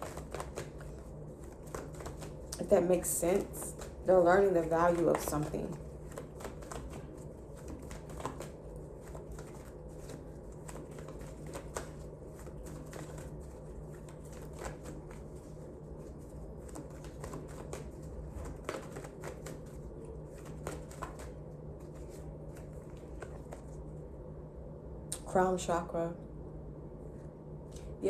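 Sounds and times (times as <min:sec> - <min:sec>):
cards being shuffled: 0:00.0 - 0:23.8
low steady hum: 0:00.0 - 0:28.0.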